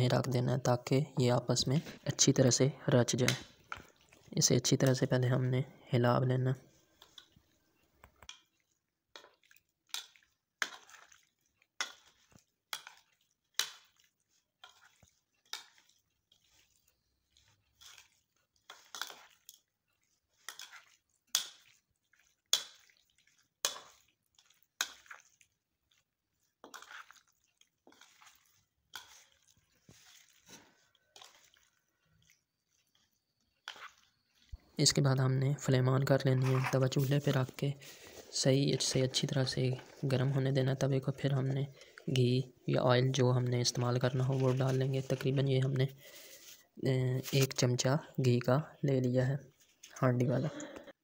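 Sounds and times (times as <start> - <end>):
metal spoon mixing in a bowl: 0.0 - 50.7.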